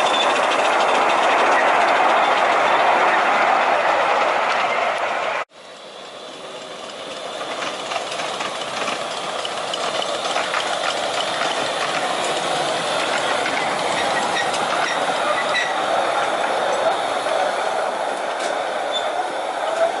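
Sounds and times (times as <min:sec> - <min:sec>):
miniature train rumbling: 0:00.0 - 0:20.0
wheels clicking on rail: 0:00.0 - 0:20.0.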